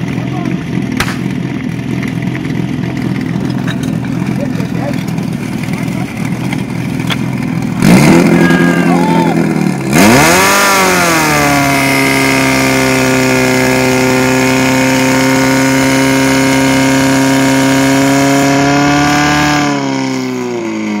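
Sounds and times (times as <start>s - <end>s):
pump engine droning: 0.0s - 21.0s.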